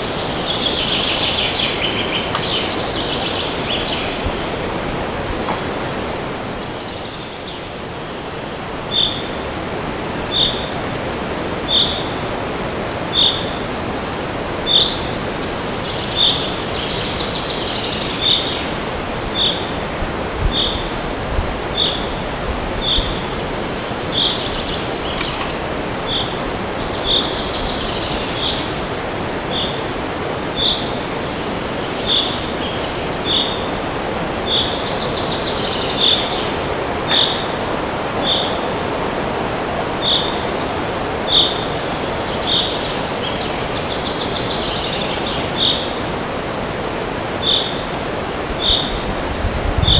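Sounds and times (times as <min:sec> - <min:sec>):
birds warbling faintly: 0:00.0 - 0:49.9
wind rushing through trees: 0:00.0 - 0:49.9.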